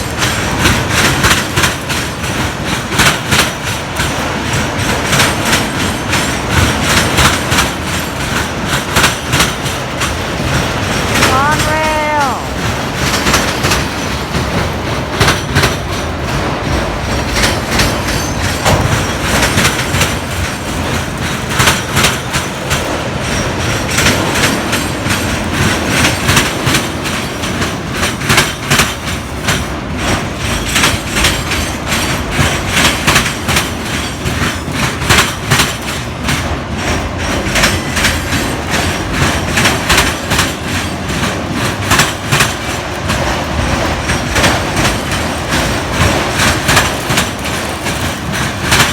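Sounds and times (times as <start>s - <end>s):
train rumbling past: 0.0s - 48.9s
train wheels clicking over rail joints: 0.0s - 48.9s.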